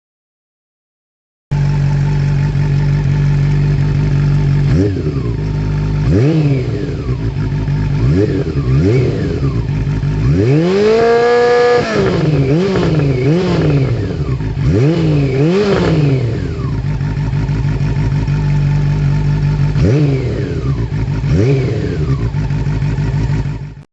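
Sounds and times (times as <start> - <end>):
motorcycle engine revving: 1.5 - 23.9.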